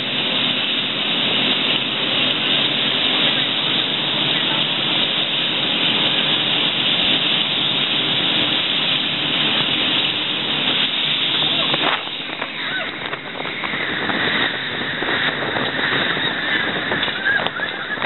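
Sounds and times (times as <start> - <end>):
boat engines humming: 0.0 - 18.0
wind and water rushing: 0.0 - 18.0.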